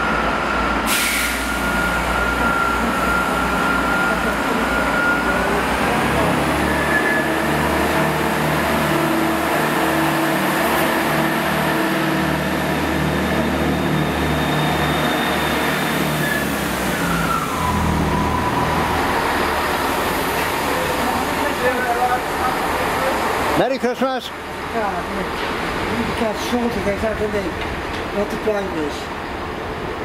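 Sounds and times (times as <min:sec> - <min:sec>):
diesel train engines droning: 0:00.0 - 0:30.0.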